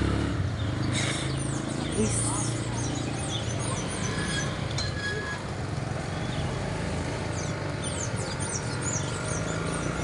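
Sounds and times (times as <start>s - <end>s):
birds calling: 0.2s - 10.0s.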